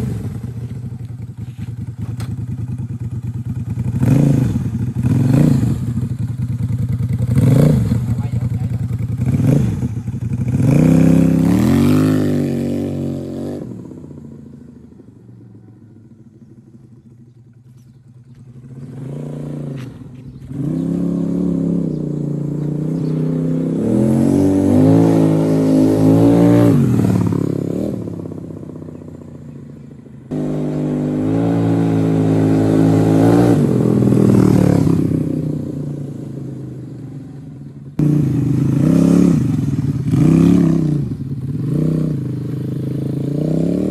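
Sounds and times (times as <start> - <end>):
scooter engine revving: 0.0 - 43.9.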